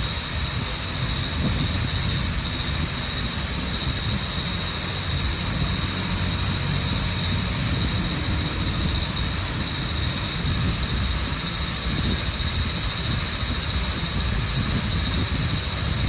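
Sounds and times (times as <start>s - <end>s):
constant high-pitched whine: 0.0s - 16.0s.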